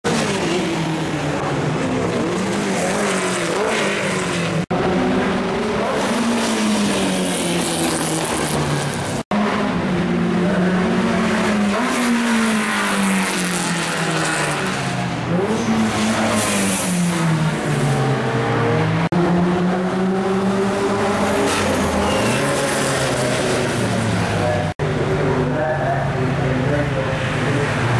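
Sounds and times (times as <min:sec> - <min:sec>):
racing car engines revving: 0:00.0 - 0:27.9.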